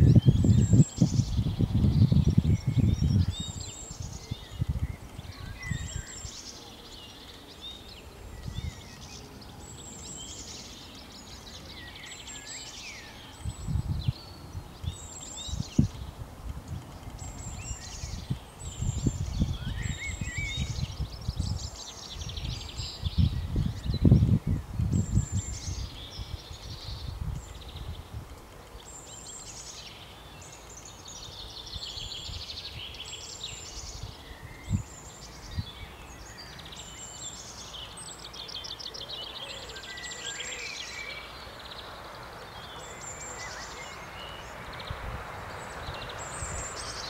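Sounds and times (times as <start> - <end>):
wind rumbling on microphone: 0.0 - 29.8, 30.4 - 38.9, 40.6 - 47.0
songbirds chirping and twittering: 0.0 - 47.0.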